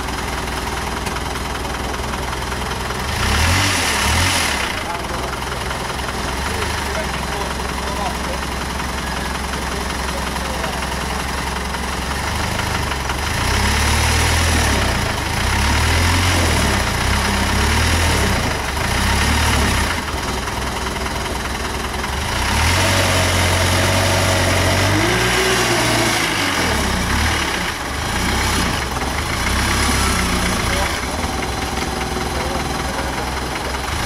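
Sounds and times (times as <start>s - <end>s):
truck engine revving: 2.8s - 34.0s.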